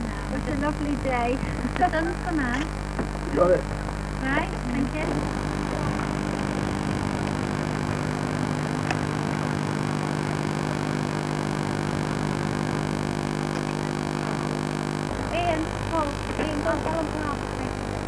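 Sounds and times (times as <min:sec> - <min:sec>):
constant hiss: 0:00.0 - 0:18.0
low hum of even tones: 0:00.0 - 0:18.0.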